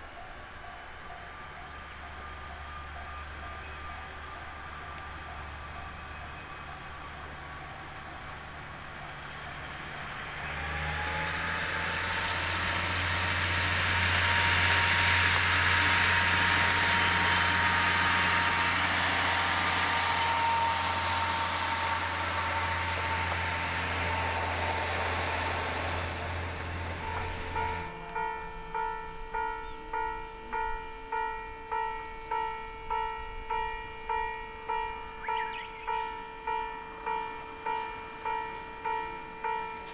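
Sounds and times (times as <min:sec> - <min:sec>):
railcar engine hum: 0:00.0 - 0:39.9
wheels on rail noise: 0:00.0 - 0:39.9.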